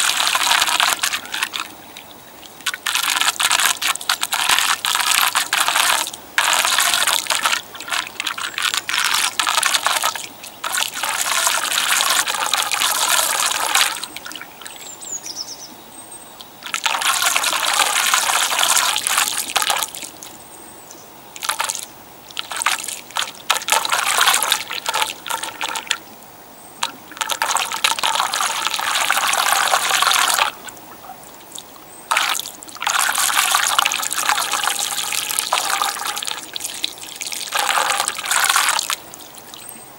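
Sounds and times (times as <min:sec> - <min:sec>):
water trickling down drain hole: 0:00.0 - 0:15.0, 0:16.4 - 0:20.4, 0:21.4 - 0:26.0, 0:26.8 - 0:39.8.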